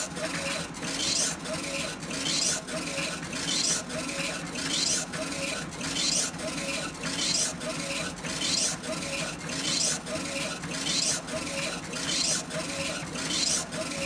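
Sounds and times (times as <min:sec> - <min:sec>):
printer carriage whirring: 0:00.0 - 0:14.0.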